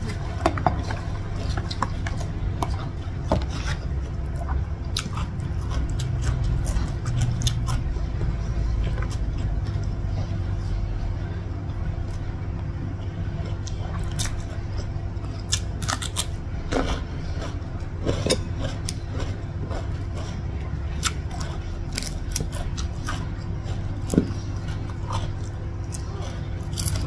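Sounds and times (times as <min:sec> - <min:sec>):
chewing with crunches: 0:00.0 - 0:27.0
steady low hum: 0:00.0 - 0:27.0.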